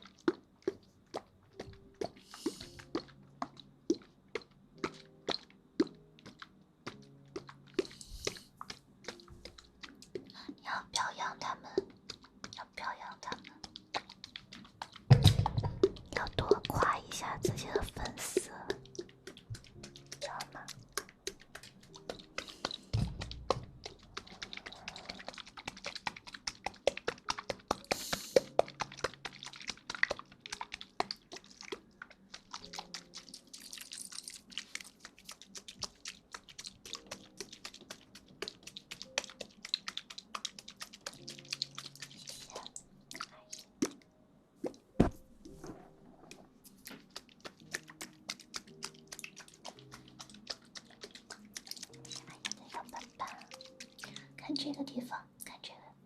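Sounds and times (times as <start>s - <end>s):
wet crinkly clicks and crackles: 0.0s - 55.9s
faint background music: 0.0s - 56.0s.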